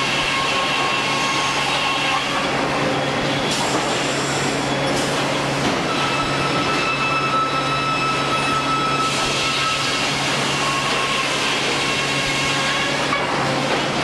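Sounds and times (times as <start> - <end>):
sawmill machinery din: 0.0 - 14.0.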